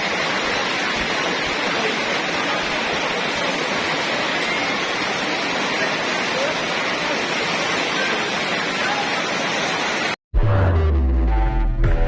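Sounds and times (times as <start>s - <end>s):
heavy rain in strong wind: 0.0s - 10.2s.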